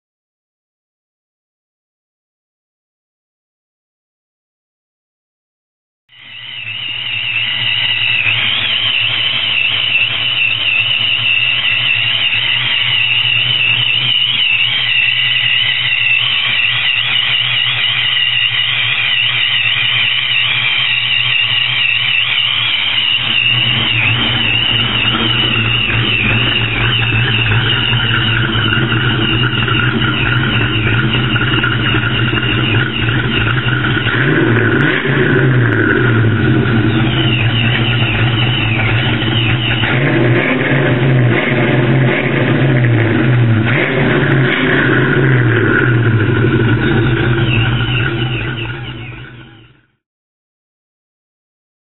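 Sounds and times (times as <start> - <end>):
supercharger whine: 6.1 - 50.0
supercharged engine idling: 6.2 - 50.0
low exhaust rumble: 6.4 - 49.9.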